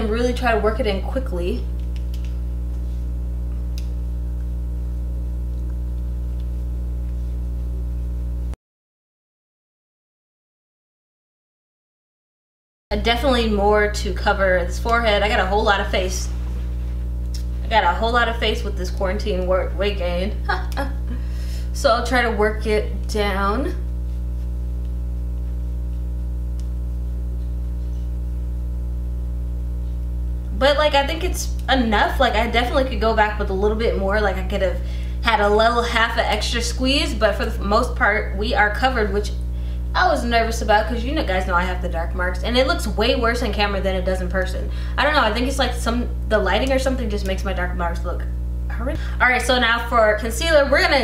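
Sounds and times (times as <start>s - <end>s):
low electrical hum: 0.0s - 8.6s, 12.9s - 51.0s.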